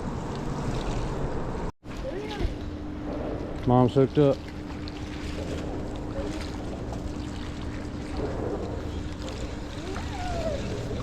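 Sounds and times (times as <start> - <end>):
steady hum: 0.0 - 11.0
water around a boat: 0.0 - 11.0
wind: 0.0 - 11.0.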